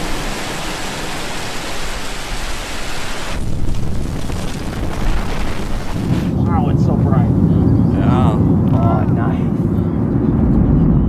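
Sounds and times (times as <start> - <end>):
rocket engine roar: 0.0 - 11.0.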